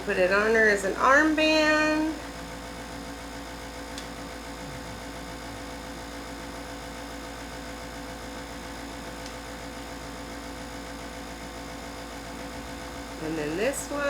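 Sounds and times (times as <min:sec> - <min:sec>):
electrical mains hum with hiss: 0:00.0 - 0:14.0.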